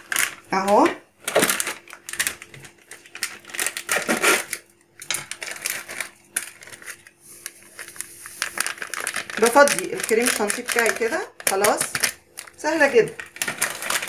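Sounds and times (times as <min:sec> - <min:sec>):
plastic sachet crinkling: 0:00.0 - 0:14.0.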